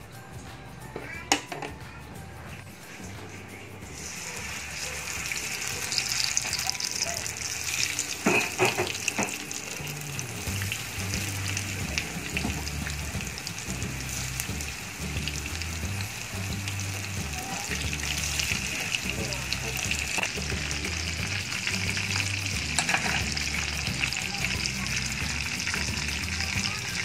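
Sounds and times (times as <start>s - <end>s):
fish sizzling in hot oil: 3.9s - 27.0s.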